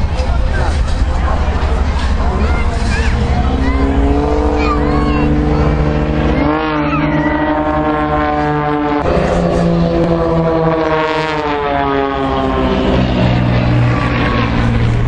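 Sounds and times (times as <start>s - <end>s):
jet aircraft flying past: 0.0s - 15.0s.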